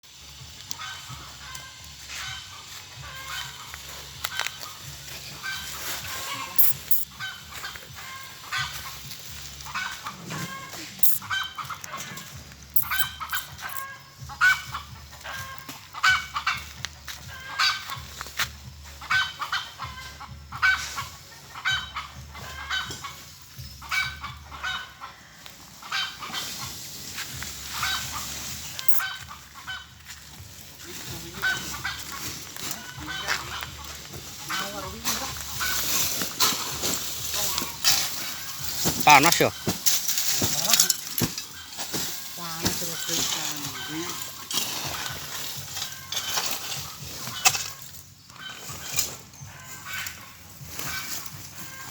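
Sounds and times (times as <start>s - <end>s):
fowl calling: 0.6s - 51.9s.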